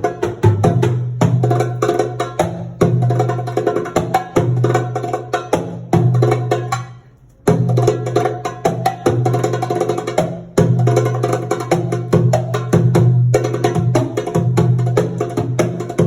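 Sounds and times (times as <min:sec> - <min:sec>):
hand drum solo: 0:00.0 - 0:16.0.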